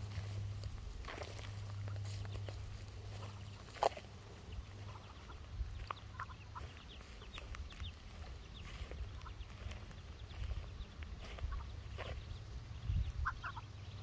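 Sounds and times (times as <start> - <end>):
ducklings and goslings peeping: 0.0 - 14.0.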